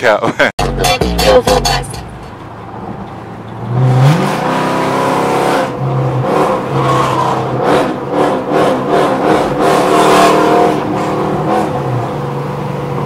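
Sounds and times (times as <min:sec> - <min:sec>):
car engine accelerating: 0:00.6 - 0:13.0.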